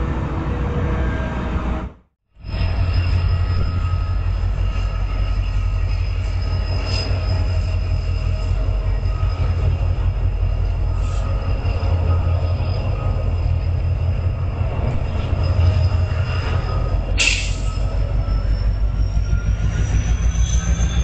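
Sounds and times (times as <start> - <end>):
freight train rumbling: 0.0 - 21.0
wheel squeal: 2.4 - 21.0.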